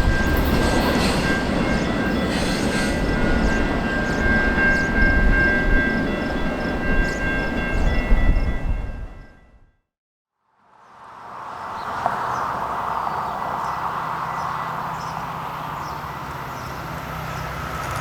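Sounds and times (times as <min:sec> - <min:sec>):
train wheels rumbling on rails: 0:00.0 - 0:09.1, 0:11.9 - 0:18.0.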